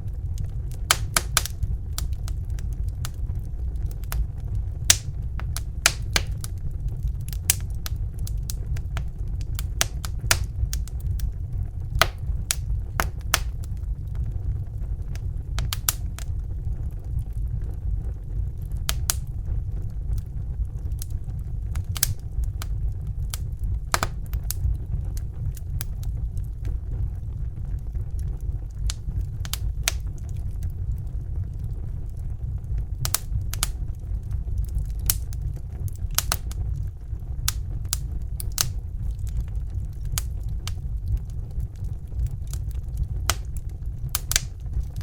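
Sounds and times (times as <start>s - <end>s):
fire crackling and popping: 0.0s - 45.0s
low rumble: 0.0s - 45.0s.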